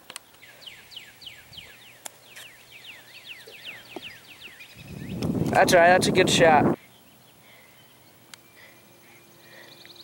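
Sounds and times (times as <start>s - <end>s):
bird calling down-slurred notes: 0.4s - 10.0s.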